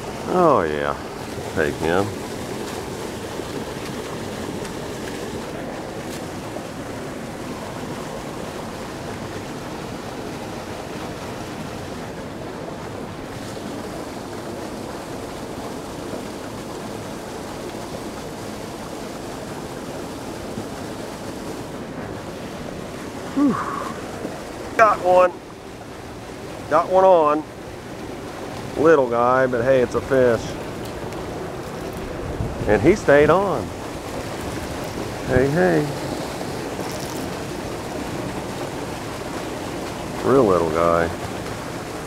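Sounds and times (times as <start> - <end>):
water rushing over rocks: 0.0 - 42.0.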